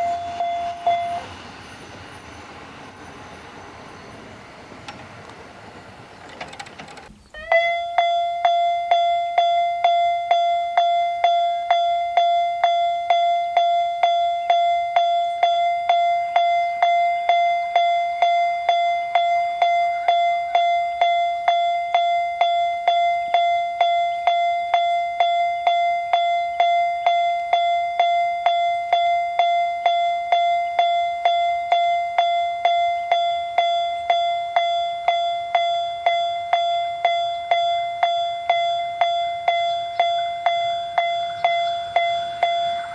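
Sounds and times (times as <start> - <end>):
railroad crossing bell ringing: 0.0 - 6.4, 7.4 - 42.9.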